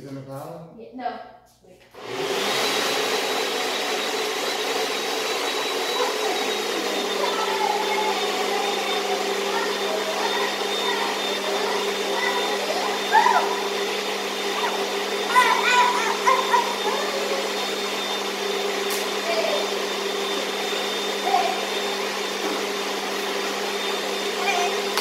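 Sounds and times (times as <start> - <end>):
blender grinding: 2.0 - 25.0.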